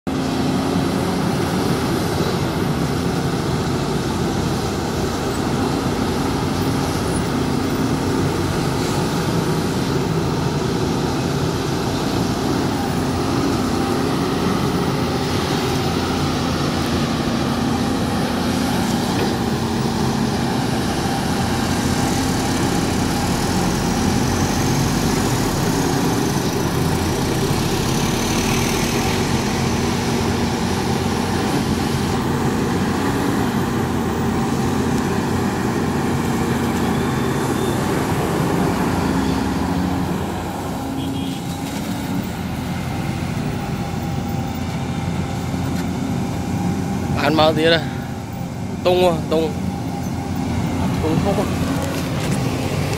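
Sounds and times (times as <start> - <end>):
excavator diesel engine running: 0.1 - 52.9.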